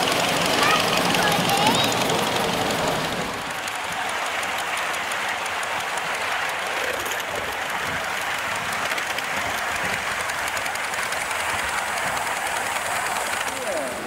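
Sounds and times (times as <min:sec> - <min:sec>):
steam hissing from model locomotive: 0:00.0 - 0:14.0.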